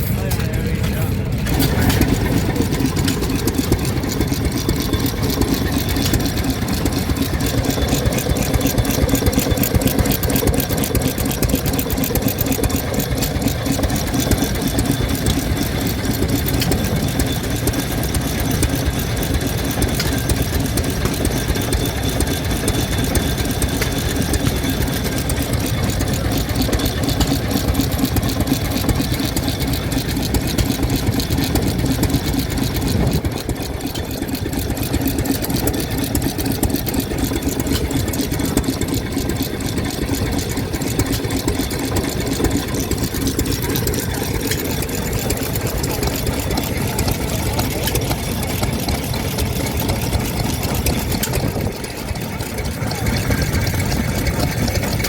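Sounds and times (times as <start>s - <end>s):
stationary engine running: 0.0s - 55.0s.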